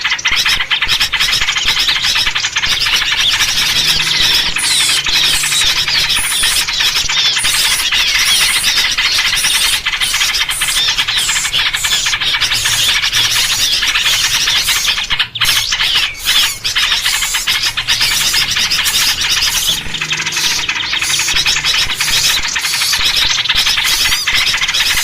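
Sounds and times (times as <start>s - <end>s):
many small birds chirping: 0.0s - 25.0s.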